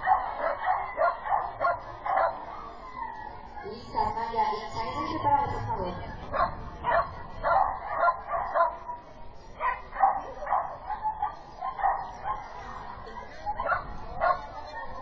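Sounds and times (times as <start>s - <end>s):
dog barking: 0.0s - 3.8s, 6.1s - 9.0s, 9.6s - 15.0s.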